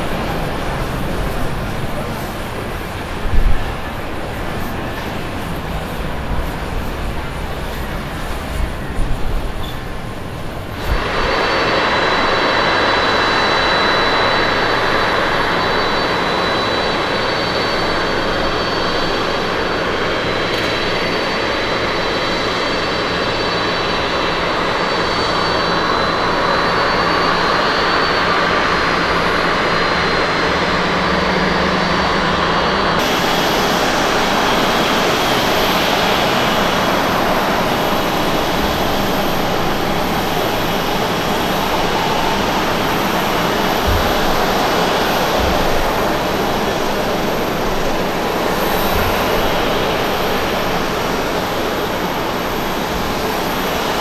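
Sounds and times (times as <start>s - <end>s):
jet engines low rumble: 0.0s - 54.0s
jet engines whine and hiss: 0.0s - 54.0s.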